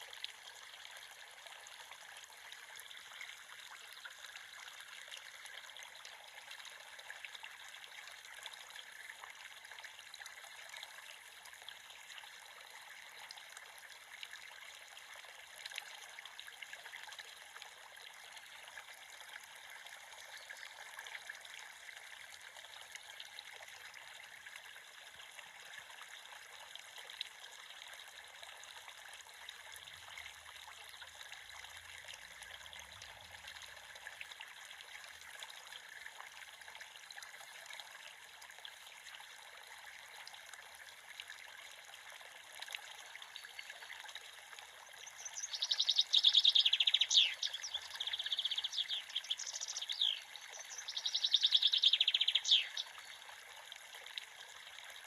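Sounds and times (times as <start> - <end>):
creek babbling over stones: 0.0 - 55.0.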